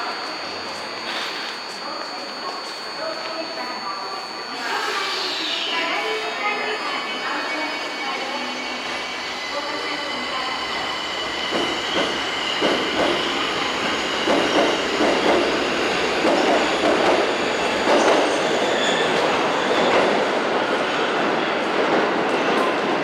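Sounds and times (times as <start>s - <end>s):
high steady squeal: 0.0s - 21.1s.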